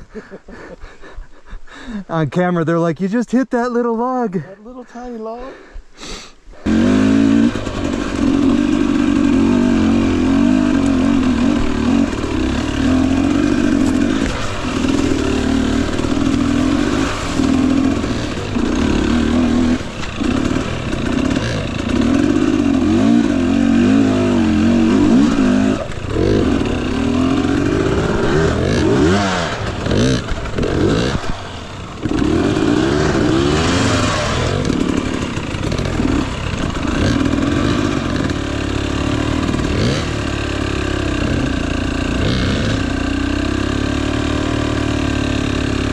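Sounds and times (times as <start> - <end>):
dirt bike engine revving: 6.6 - 45.9.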